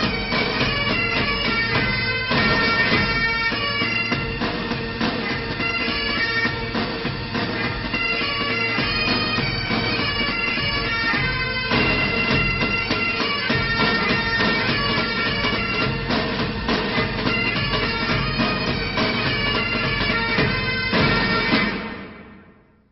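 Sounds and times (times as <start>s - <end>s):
bagpipe music: 0.0s - 22.4s.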